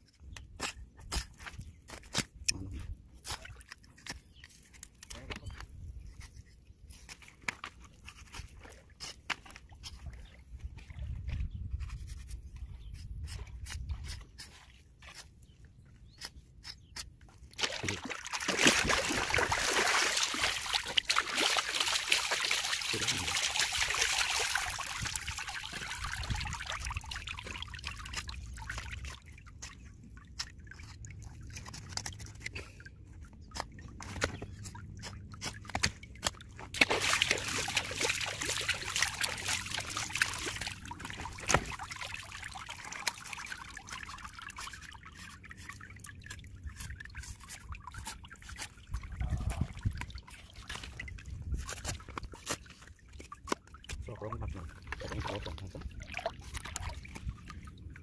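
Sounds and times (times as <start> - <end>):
water trickling and splashing: 0.1 - 58.0.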